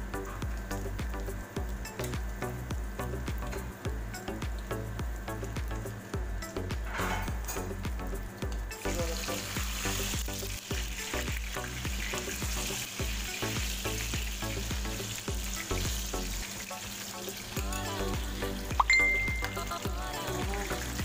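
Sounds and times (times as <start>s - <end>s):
fish fritters sizzling in oil: 0.1s - 21.0s.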